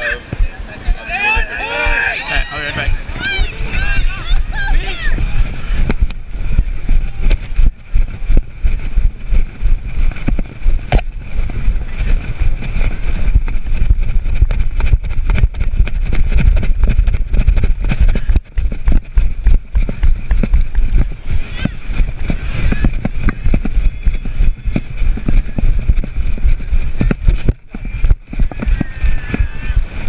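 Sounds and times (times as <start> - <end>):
wind buffeting microphone: 0.0 - 30.0
camera rubbing knocks and rustles: 5.2 - 30.0.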